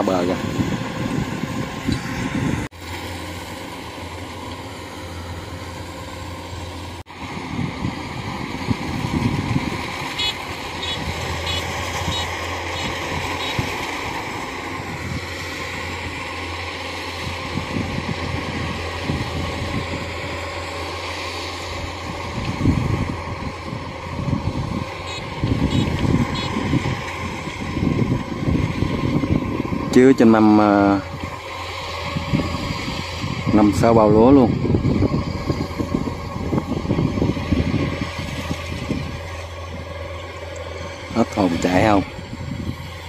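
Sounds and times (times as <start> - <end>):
combine harvester engine droning: 0.0 - 43.0.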